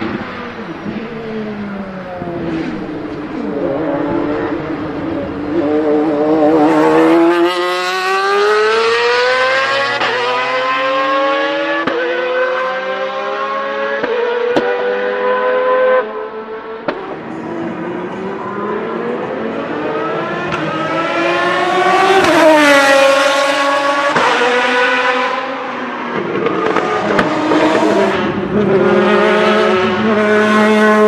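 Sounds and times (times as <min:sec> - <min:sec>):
race car engine accelerating: 0:00.0 - 0:31.0.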